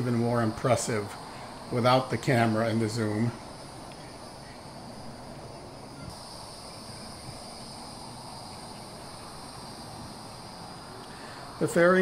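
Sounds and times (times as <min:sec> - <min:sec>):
crickets and insects trilling: 0:00.0 - 0:12.0
low background hum: 0:00.0 - 0:12.0.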